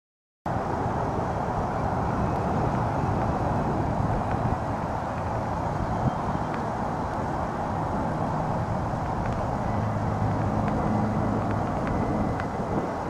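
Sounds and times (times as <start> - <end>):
traffic noise: 0.5 - 13.0
vehicle engine low hum: 0.5 - 13.0.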